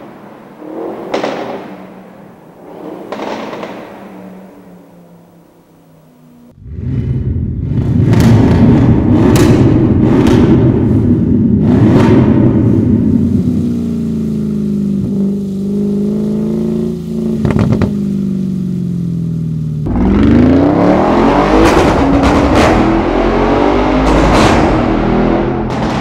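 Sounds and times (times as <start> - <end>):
car engine revving: 0.0 - 26.0
exhaust cracks: 0.0 - 26.0.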